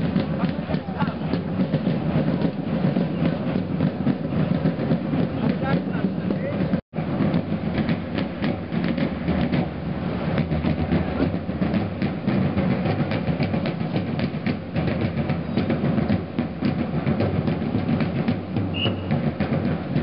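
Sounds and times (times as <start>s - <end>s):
field drums marching cadence: 0.0s - 20.0s.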